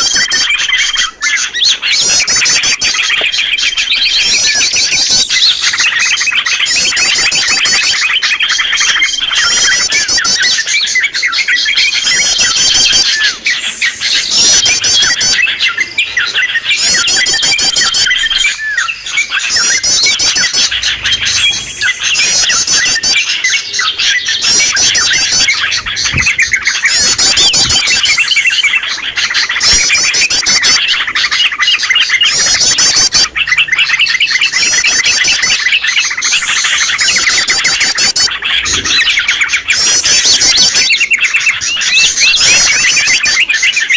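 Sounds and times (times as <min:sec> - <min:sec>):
high rapid bird twittering: 0:00.0 - 0:43.9
small birds chirping: 0:00.0 - 0:43.9.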